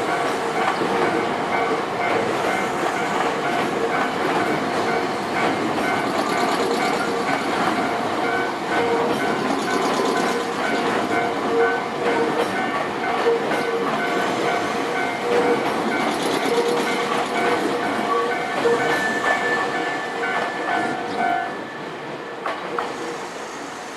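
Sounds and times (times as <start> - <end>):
crossing warning bell dinging: 0.0 - 23.1
train running over level crossing: 0.0 - 23.9.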